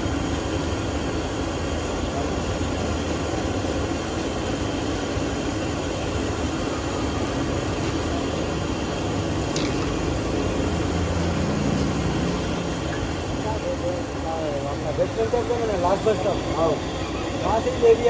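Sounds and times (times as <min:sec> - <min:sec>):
street background rumble and hiss: 0:00.0 - 0:18.0.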